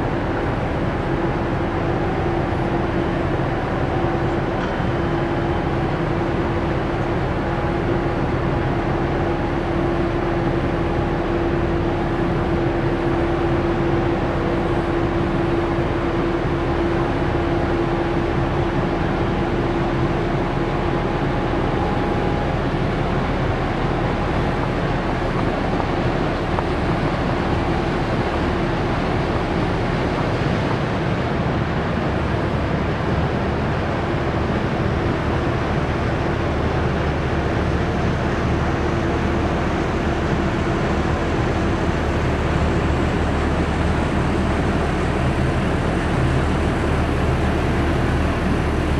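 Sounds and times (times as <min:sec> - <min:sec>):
diesel engine running: 0:00.0 - 0:48.9
steady hum: 0:00.0 - 0:48.9.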